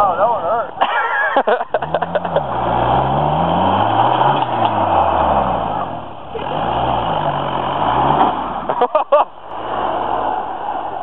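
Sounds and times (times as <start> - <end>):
car engine revving: 1.7 - 11.0.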